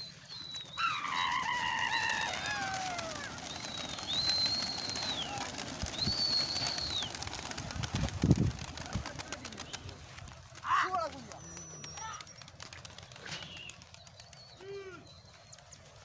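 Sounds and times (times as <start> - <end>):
pigeon wings fluttering: 0.0 - 16.0.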